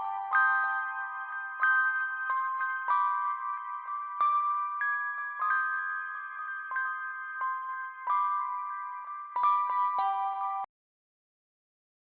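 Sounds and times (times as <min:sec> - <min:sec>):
slow bell-like chiming melody: 0:00.0 - 0:10.7.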